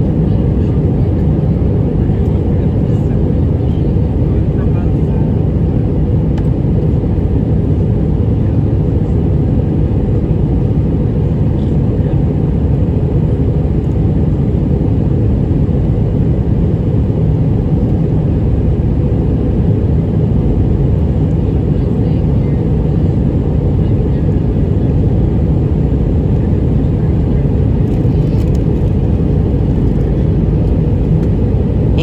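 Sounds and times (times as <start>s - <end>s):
jet engine rumble in cabin: 0.0s - 32.0s.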